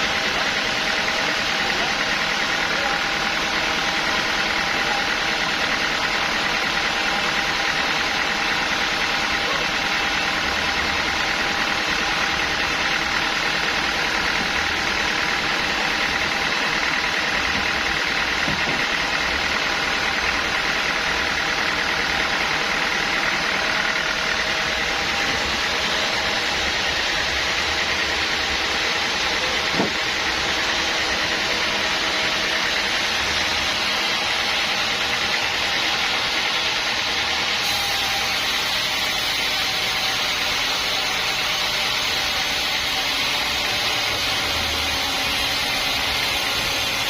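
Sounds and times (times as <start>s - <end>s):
sawmill machinery running: 0.0s - 47.0s.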